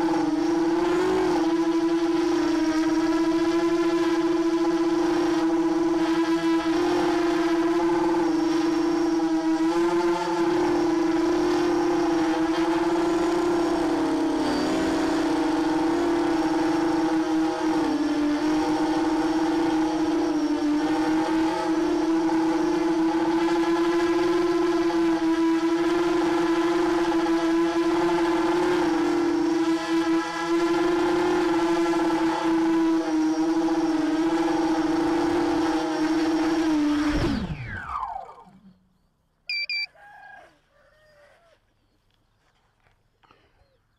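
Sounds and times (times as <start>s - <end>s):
quadcopter motors whining: 0.0s - 38.8s, 39.5s - 39.9s.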